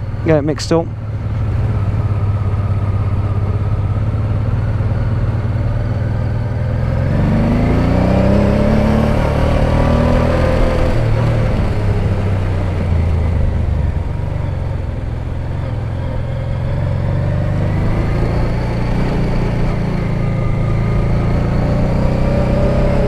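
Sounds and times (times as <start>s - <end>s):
motorcycle engine: 0.0s - 23.0s.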